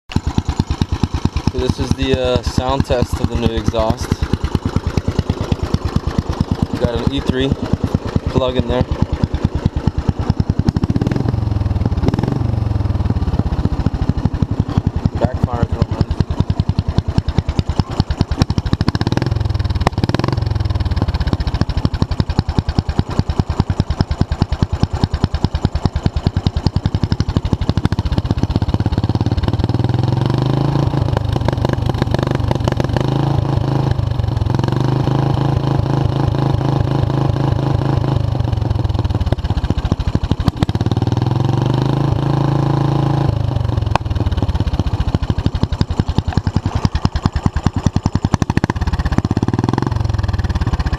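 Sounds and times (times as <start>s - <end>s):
small engine revving: 0.1s - 50.9s.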